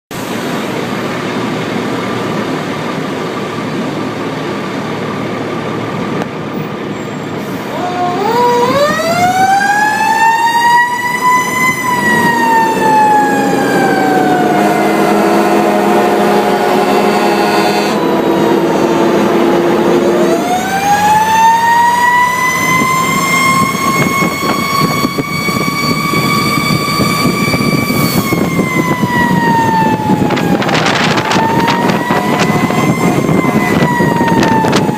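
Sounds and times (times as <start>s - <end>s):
truck engine and road noise: 0.1s - 34.9s
fire engine siren wailing: 6.9s - 34.9s.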